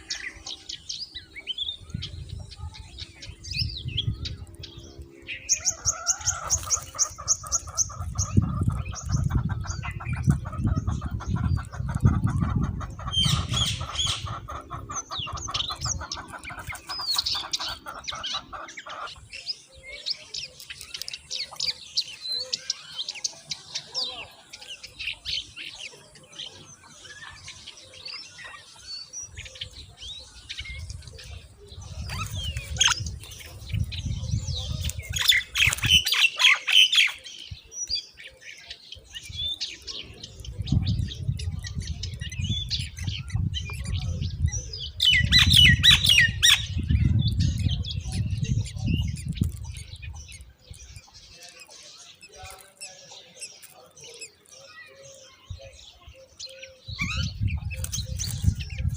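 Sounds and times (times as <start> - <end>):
bird chicks squawking: 0.0 - 58.9.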